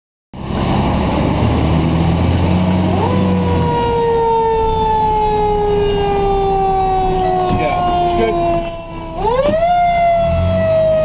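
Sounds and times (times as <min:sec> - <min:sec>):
fire engine siren: 0:00.4 - 0:11.0
truck engine drone: 0:00.4 - 0:11.0.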